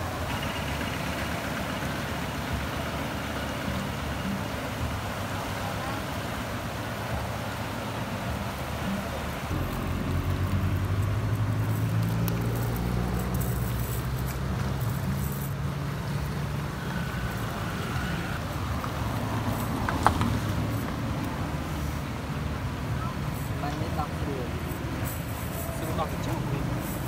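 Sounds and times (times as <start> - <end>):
motor engine humming: 0.0 - 27.0.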